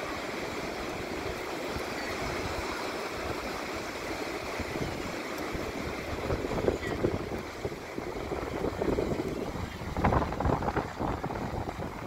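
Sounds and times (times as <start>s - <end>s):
sea surf breaking on beach: 0.0s - 12.0s
wind buffeting microphone: 0.0s - 12.0s.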